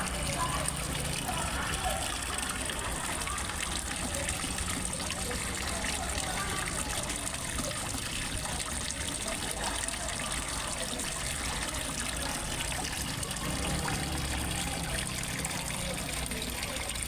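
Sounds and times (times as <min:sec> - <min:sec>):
water trickling into pond: 0:00.0 - 0:17.0.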